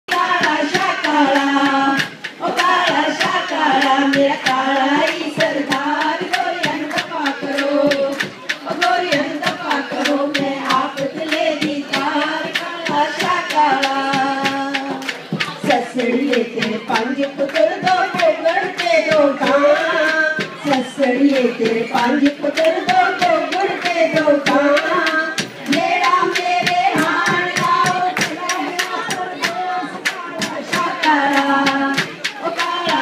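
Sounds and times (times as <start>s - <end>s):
hand drum beat: 0.1s - 33.0s
woman singing into microphone: 0.1s - 33.0s.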